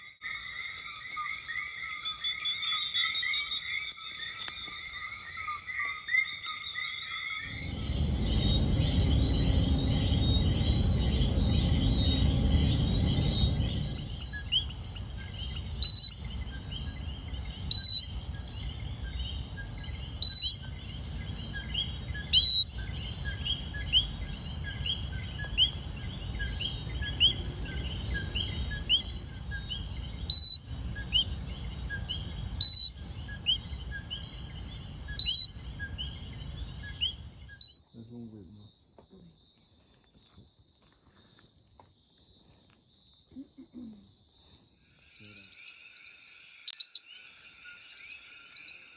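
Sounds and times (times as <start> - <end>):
frogs chirping chorus: 0.3 - 38.4, 43.6 - 48.9.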